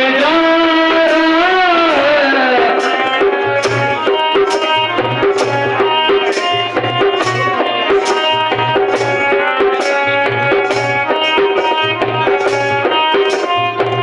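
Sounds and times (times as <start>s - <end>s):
tabla-like drumming: 0.0s - 14.0s.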